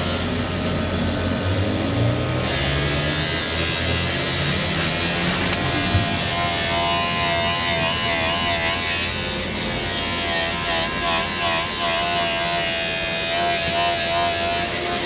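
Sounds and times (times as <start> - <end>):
power tool buzzing: 0.0 - 15.0.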